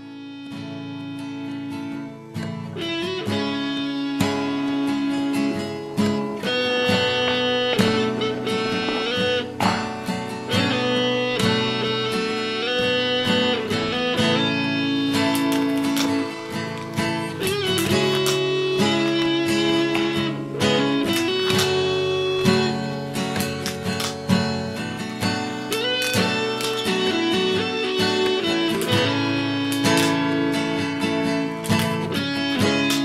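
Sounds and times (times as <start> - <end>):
plucked guitar music: 0.0 - 33.0.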